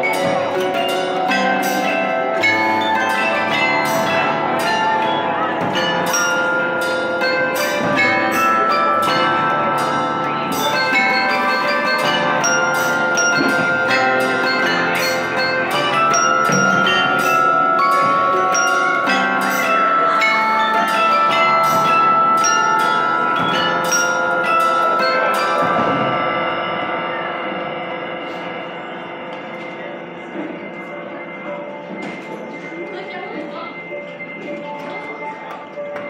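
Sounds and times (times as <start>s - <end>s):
bell-like chime music: 0.0s - 36.0s.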